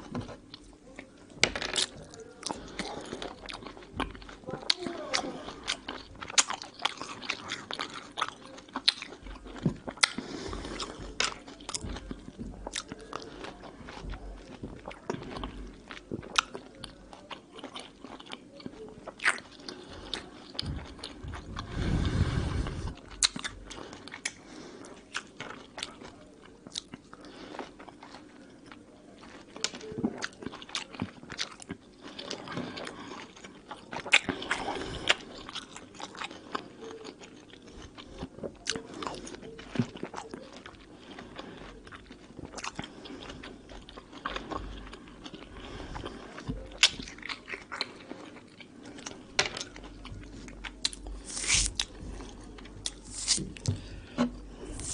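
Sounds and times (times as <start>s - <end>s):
juicy fruit chewing: 0.0s - 54.9s.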